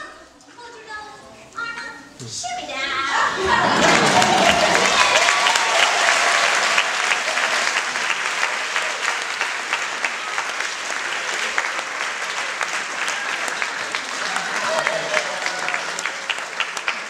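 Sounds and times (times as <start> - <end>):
audience applauding: 3.2 - 17.0.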